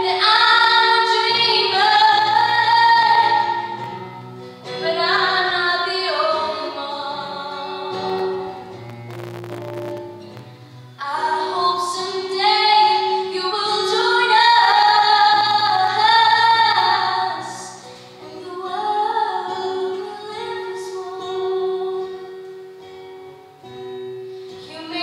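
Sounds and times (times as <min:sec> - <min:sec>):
girl singing into a microphone: 0:00.0 - 0:08.7, 0:11.0 - 0:23.3, 0:24.6 - 0:25.0.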